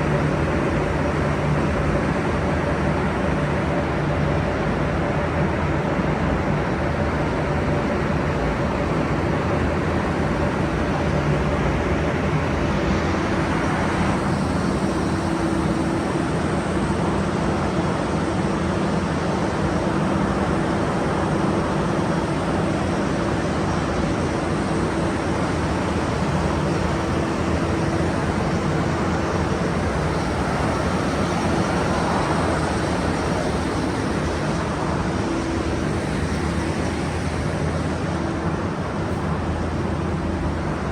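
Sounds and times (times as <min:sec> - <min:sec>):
heavy machinery humming: 0:00.0 - 0:40.9.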